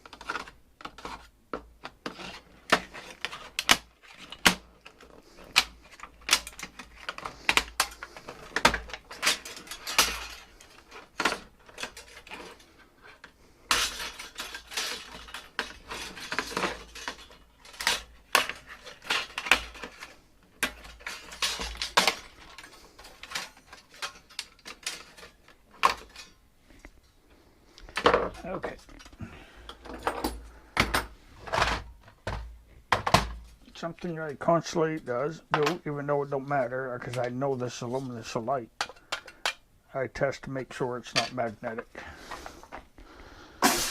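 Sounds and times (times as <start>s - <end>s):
plastic and metal parts clattering: 0.0s - 43.9s.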